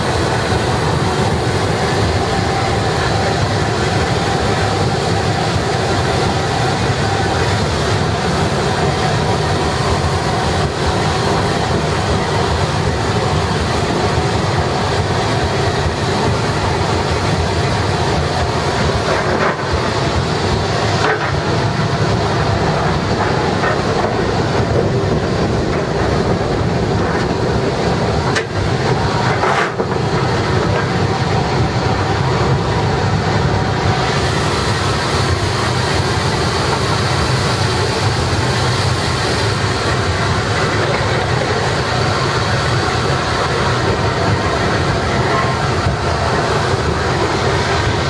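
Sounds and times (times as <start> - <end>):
steam locomotive rumble: 0.0 - 48.0.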